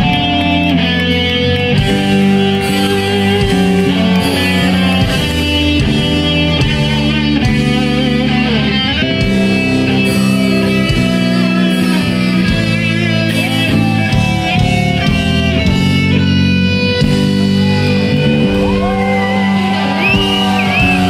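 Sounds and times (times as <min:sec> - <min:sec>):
electric guitar lead with bent notes: 0:00.0 - 0:21.0
rock band playing live: 0:00.0 - 0:21.0.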